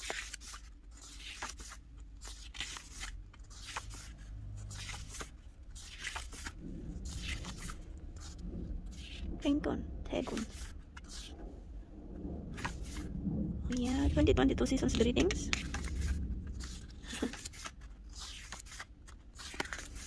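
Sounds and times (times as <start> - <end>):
paper pages turning: 0.0 - 11.6, 12.5 - 13.1, 13.7 - 20.0.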